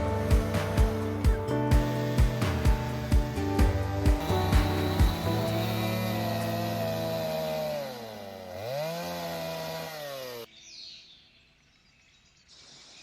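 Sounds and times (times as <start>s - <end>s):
chainsaw revving: 0.0s - 10.5s.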